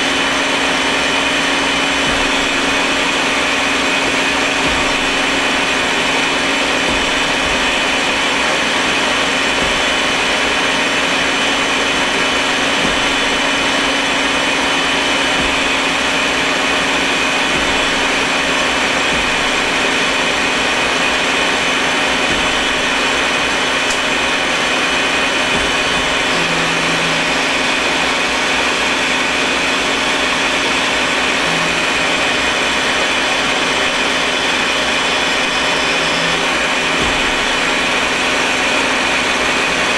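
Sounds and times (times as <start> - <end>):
low hum: 0.0 - 30.0, 31.0 - 39.9
high whine: 0.0 - 39.9
lathe machine whirring: 0.0 - 39.9.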